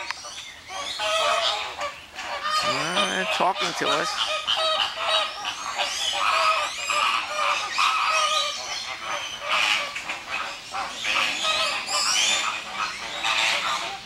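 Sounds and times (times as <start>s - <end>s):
flamingos honking: 0.0s - 14.0s.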